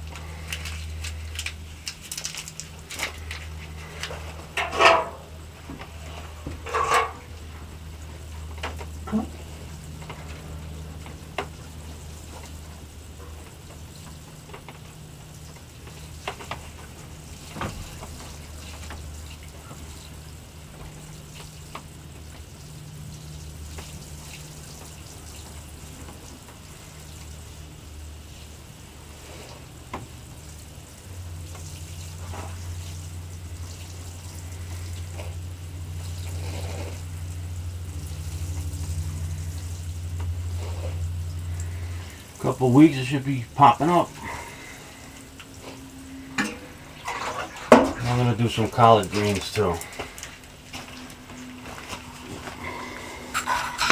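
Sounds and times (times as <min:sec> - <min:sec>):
water sprinkling onto soil: 0:00.0 - 0:04.6, 0:07.4 - 0:53.9
steady low hum: 0:00.0 - 0:53.9.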